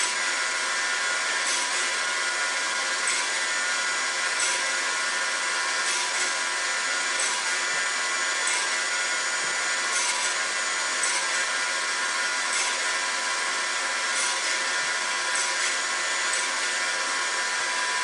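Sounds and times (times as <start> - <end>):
table saw whining: 0.0 - 18.0.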